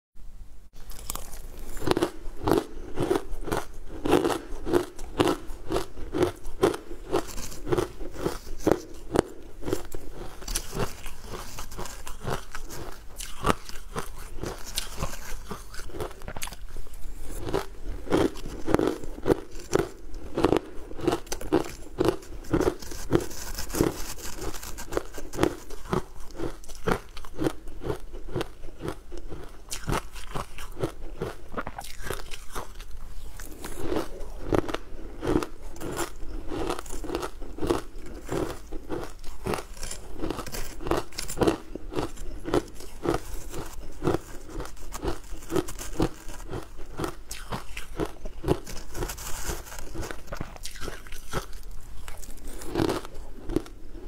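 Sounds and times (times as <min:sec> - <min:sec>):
crisp crunching chewing: 0:00.8 - 0:54.0.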